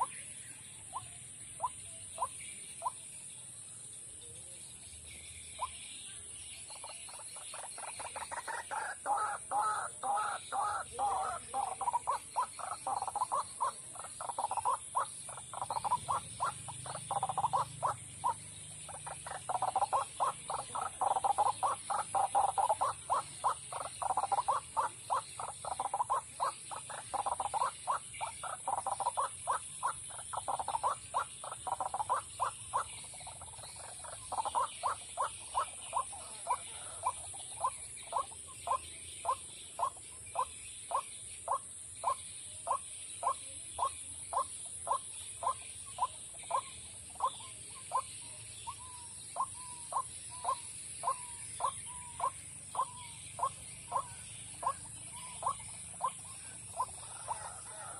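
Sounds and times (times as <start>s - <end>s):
bird harsh croaking calls: 0.0s - 3.4s, 5.0s - 57.9s.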